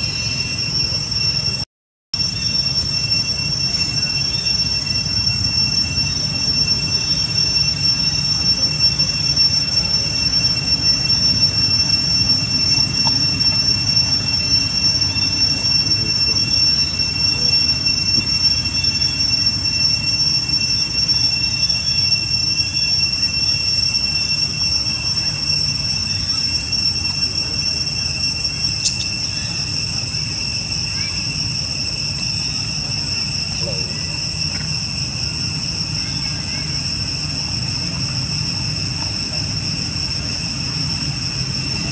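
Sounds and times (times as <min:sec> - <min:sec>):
high-pitched insect chorus: 0:00.0 - 0:01.6, 0:02.2 - 0:41.9.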